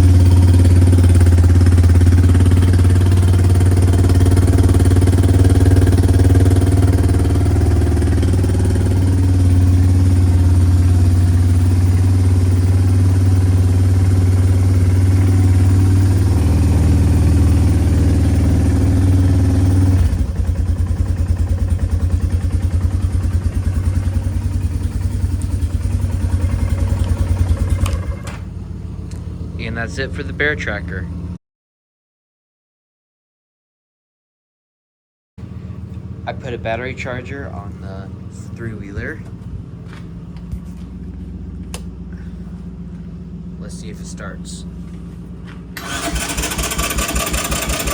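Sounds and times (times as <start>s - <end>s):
atv engine idling: 0.0s - 31.4s, 35.4s - 47.9s.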